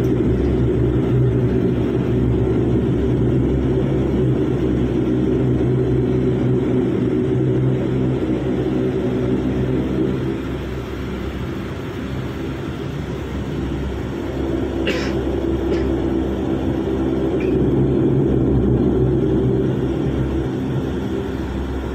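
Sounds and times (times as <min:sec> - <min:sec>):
airliner engines and cabin rumble: 0:00.0 - 0:21.9.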